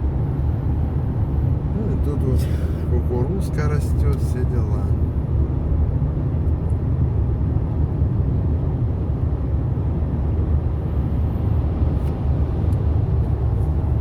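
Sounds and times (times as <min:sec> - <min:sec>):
car cabin road noise: 0:00.0 - 0:14.0.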